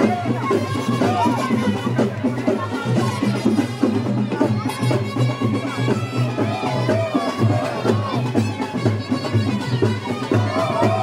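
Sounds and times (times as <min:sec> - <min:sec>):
reed wind instrument melody: 0:00.0 - 0:11.0
steady drum beat: 0:00.0 - 0:11.0.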